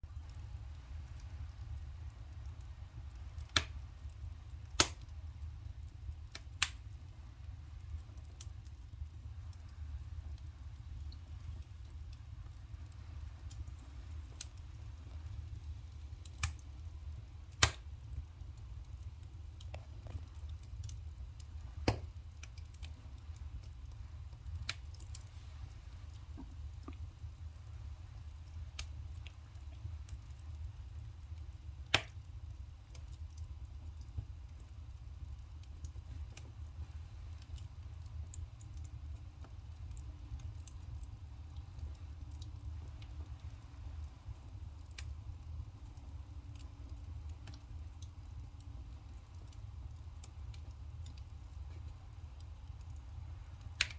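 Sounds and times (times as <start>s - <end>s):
firewood crackling and popping: 0.0s - 53.9s
low fire rumble: 0.0s - 53.9s
loud fire snaps: 0.1s - 53.9s.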